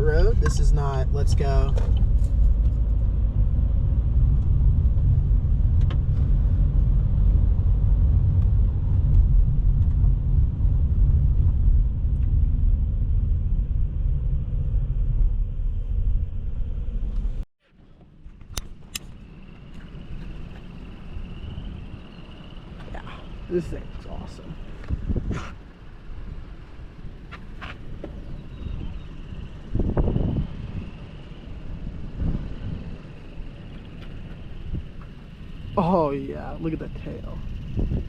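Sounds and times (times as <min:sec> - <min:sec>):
tyre and road rumble: 0:00.0 - 0:38.0.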